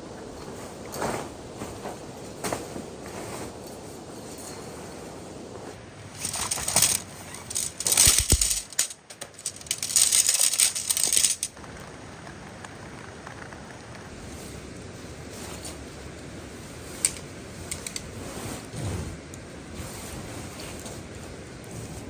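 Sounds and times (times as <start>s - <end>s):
rustling: 0.1s - 22.0s.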